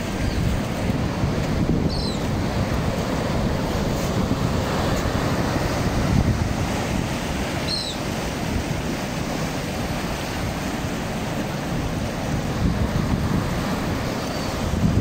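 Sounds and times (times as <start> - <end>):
surf breaking over rocks: 0.0 - 15.0
wind buffeting microphone: 0.0 - 15.0.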